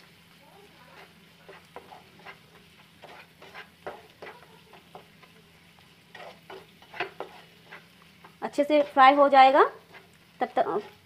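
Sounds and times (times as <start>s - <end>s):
faint frying sizzle: 0.0s - 11.0s
spatula scraping frying pan: 0.6s - 11.0s.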